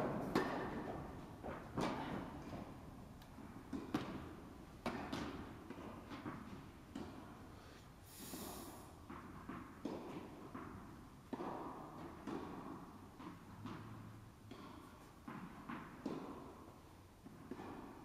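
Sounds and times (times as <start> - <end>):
tennis balls struck and bouncing: 0.0 - 7.6, 8.9 - 18.0.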